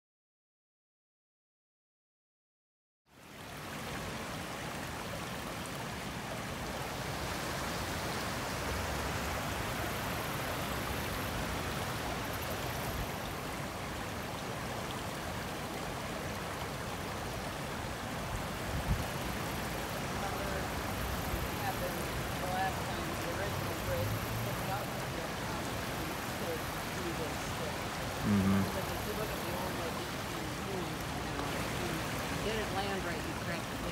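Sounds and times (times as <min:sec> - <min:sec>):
creek water flowing: 0:03.1 - 0:33.9.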